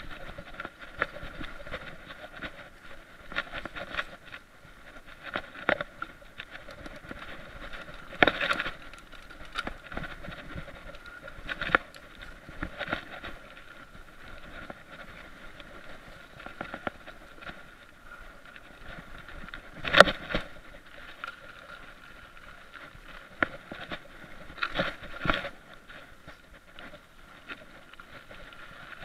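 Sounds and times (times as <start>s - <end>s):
bike rattling over bumps: 0.0s - 29.0s.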